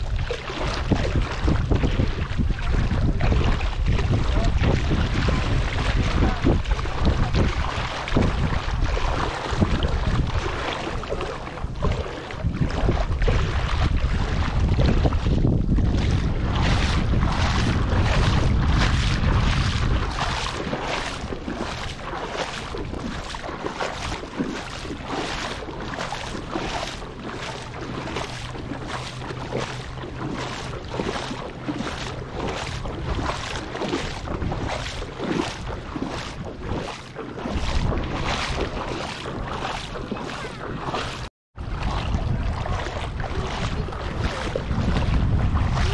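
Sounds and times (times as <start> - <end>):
sea water splashing: 0.0 - 45.9
wind rumble on microphone: 0.0 - 45.9.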